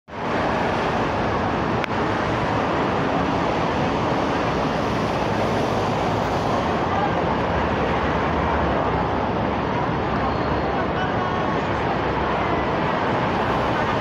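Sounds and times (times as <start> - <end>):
road traffic roar: 0.1 - 14.0.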